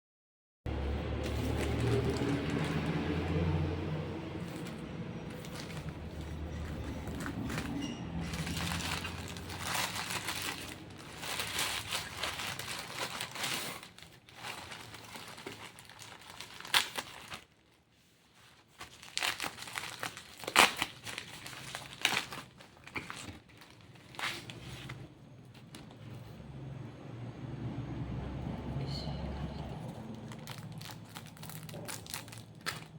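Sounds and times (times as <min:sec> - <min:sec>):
packaging rustling and crackling: 0:00.8 - 0:26.4, 0:29.8 - 0:32.9.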